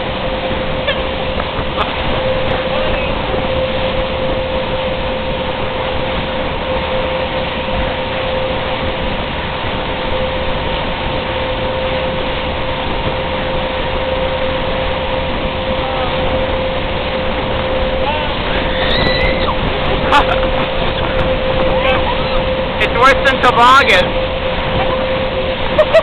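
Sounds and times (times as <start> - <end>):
wind rushing: 0.0 - 25.7
motorboat engine whine: 0.0 - 26.0
wake water rushing: 0.0 - 26.0.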